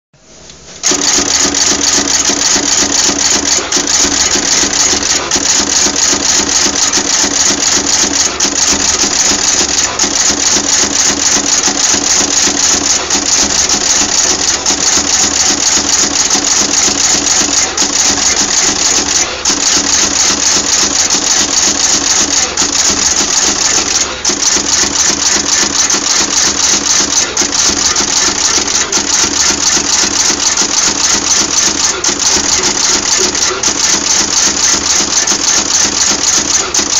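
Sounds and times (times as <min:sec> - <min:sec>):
machine clattering clicks: 0:00.8 - 0:36.9.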